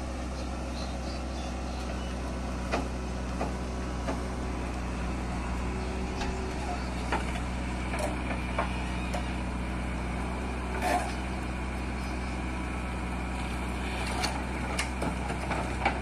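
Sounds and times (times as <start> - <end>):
backhoe digging soil: 0.0 - 16.0
diesel engines running: 0.0 - 16.0.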